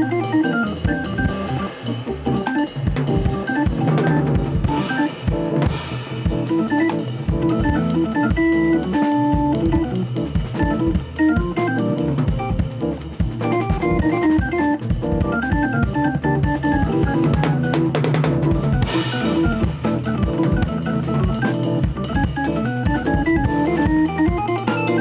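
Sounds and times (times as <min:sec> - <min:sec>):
jazz drum kit: 0:00.0 - 0:25.0
organ playing runs and chords: 0:00.0 - 0:25.0.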